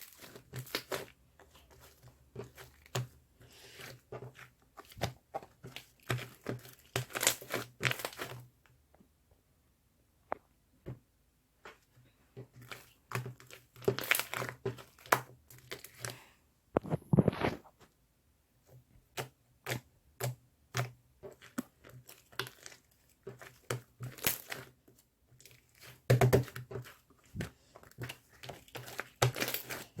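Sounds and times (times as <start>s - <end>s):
crinkling and crackling: 0.0s - 9.1s, 11.6s - 18.0s, 18.6s - 30.0s.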